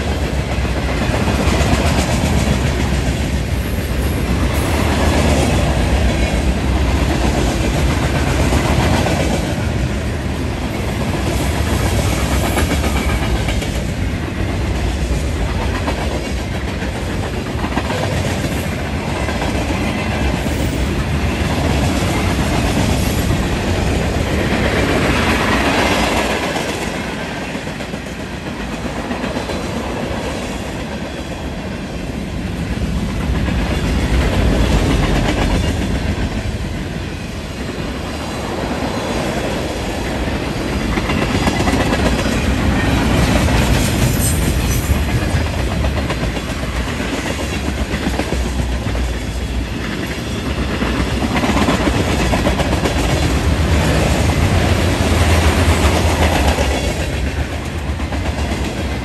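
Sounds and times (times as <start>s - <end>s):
freight train cars rolling: 0.0s - 59.0s.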